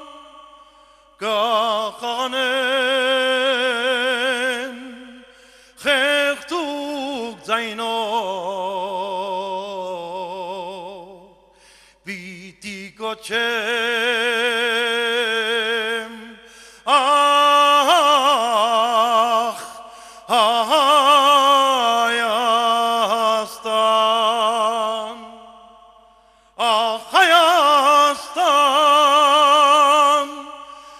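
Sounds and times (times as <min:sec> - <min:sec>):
man singing with vibrato: 0:00.0 - 0:30.9.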